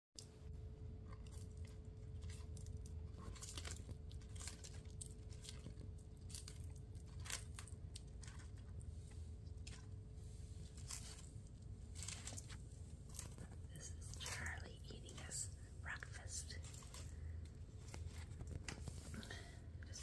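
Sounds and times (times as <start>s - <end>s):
tortoise crunching food: 0.2s - 20.0s.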